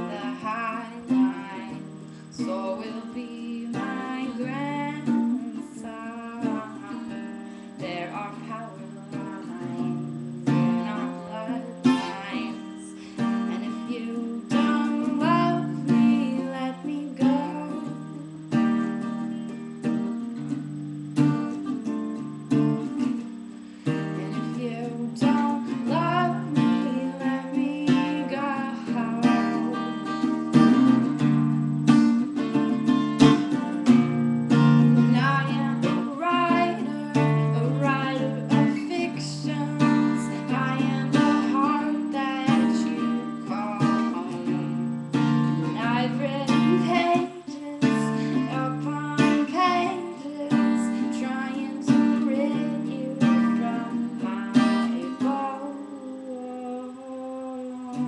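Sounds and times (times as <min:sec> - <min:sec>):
woman singing: 0:00.0 - 0:20.6, 0:21.2 - 0:58.0
acoustic guitar strumming: 0:00.0 - 0:58.0.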